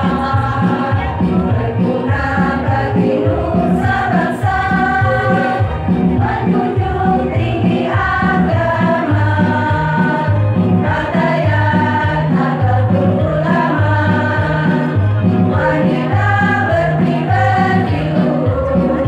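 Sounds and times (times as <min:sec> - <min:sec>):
women's choir singing: 0:00.0 - 0:19.0.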